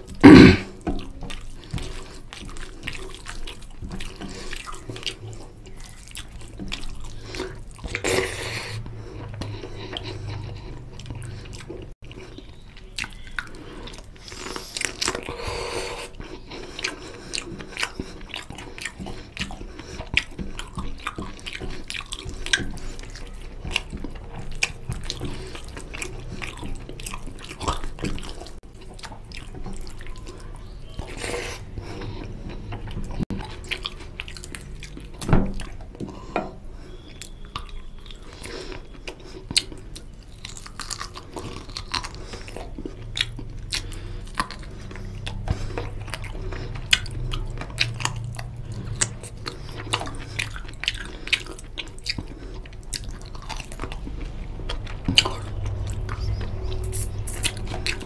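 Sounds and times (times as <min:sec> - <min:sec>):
chewing and lip smacks: 0:00.0 - 0:58.0
wet squelching of fingers mixing: 0:08.8 - 0:15.3, 0:16.3 - 0:58.0.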